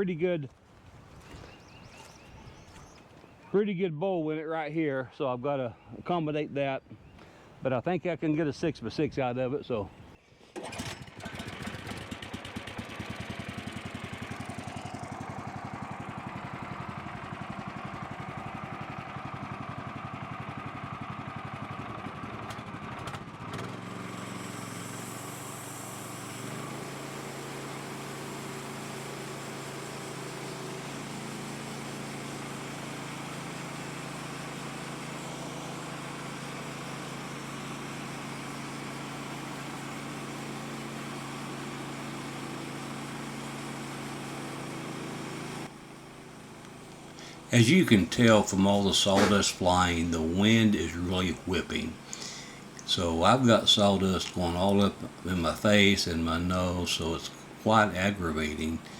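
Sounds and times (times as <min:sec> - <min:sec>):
sawmill engine running: 0:10.6 - 0:58.9.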